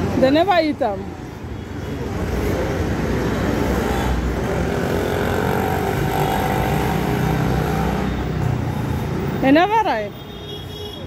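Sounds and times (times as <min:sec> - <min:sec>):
road traffic engines: 0:00.0 - 0:11.0.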